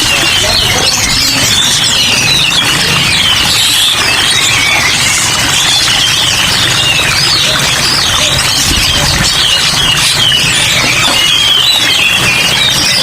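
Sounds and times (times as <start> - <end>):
songbirds chirping and warbling: 0.0 - 13.0.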